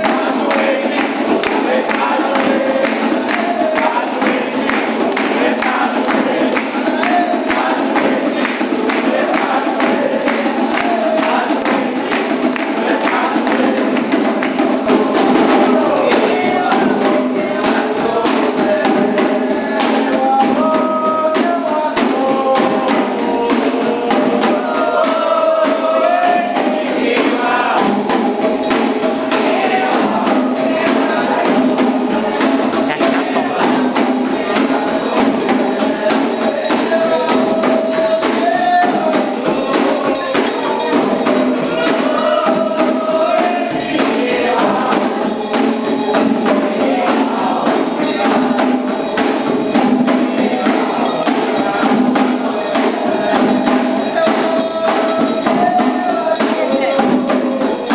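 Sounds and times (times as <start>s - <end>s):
fast dense percussion: 0.0s - 57.9s
voices singing a chant: 0.0s - 57.9s.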